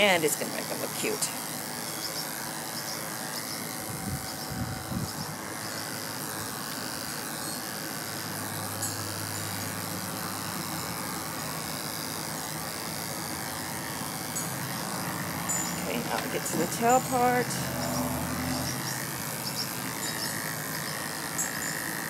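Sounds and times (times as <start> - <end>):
electric pet clippers running: 0.0 - 22.0.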